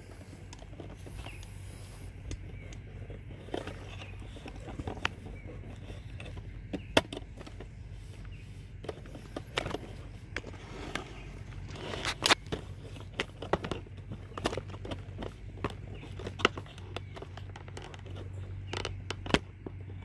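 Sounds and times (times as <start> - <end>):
low steady hum: 0.0 - 20.0
smartphone handling clicks and scrapes: 0.0 - 20.0.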